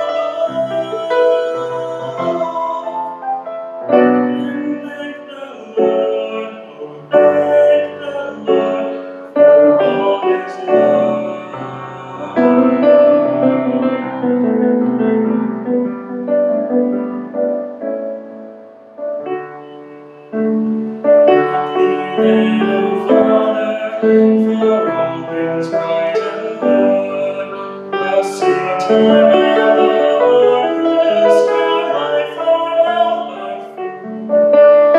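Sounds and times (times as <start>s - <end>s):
man singing: 0.0s - 15.4s, 19.5s - 34.9s
piano playing sustained chords: 0.0s - 34.9s.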